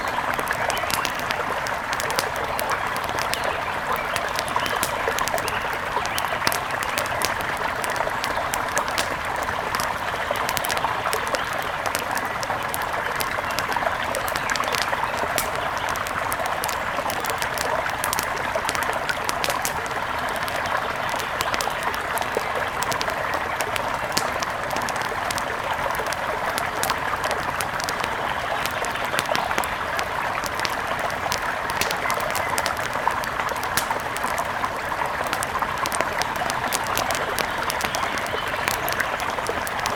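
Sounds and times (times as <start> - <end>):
small sharp ticks: 0.0 - 39.9.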